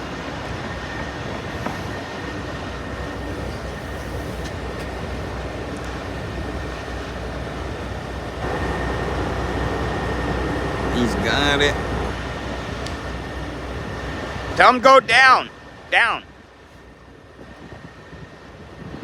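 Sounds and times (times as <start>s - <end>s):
thin steady whine: 0.0s - 18.9s
heavy diesel machinery rumbling: 0.0s - 19.0s.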